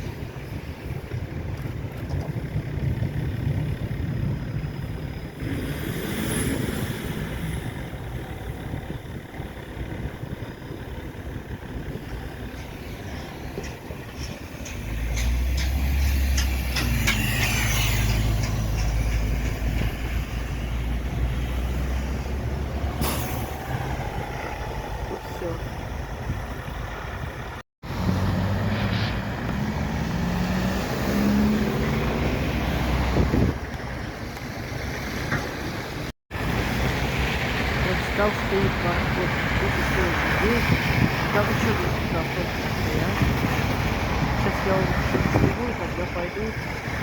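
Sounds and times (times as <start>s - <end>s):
heavy vehicle engine rumbling: 0.0s - 47.0s
street traffic: 0.0s - 47.0s.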